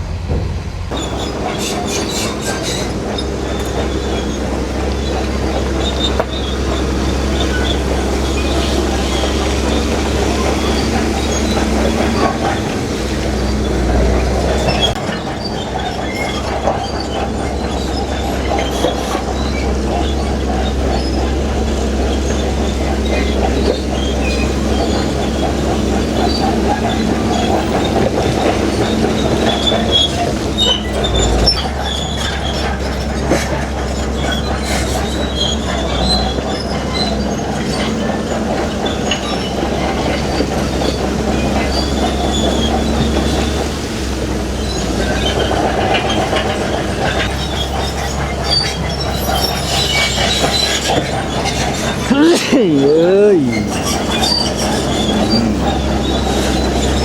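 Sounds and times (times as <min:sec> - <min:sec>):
steel tracks squealing and clanking: 0:00.0 - 0:52.9, 0:53.5 - 0:57.0
bulldozer diesel engine: 0:00.0 - 0:57.0.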